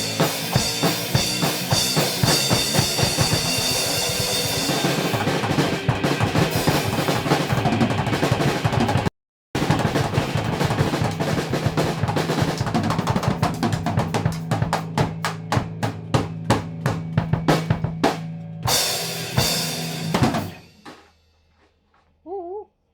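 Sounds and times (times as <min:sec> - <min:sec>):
drum roll on snare and bass drum: 0:00.0 - 0:21.1.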